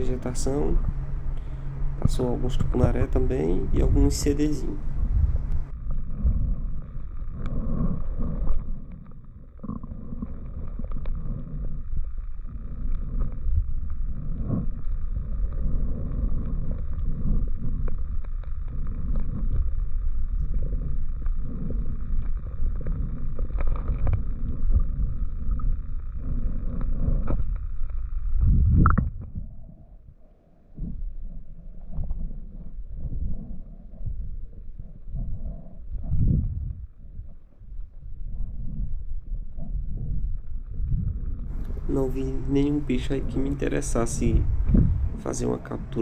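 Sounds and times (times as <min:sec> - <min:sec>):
faint high hum: 0:00.0 - 0:46.0
underwater water sloshing rumble: 0:00.0 - 0:46.0.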